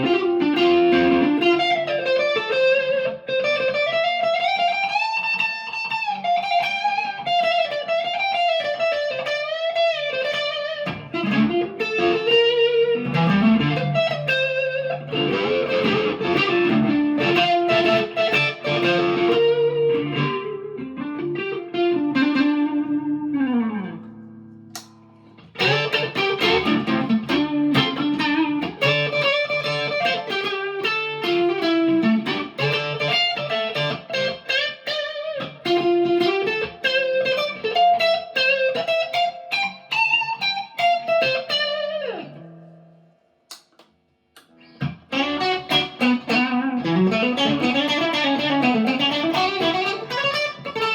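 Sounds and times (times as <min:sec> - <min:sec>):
electric guitar melodic lines: 0:00.0 - 0:43.8, 0:44.4 - 0:50.9.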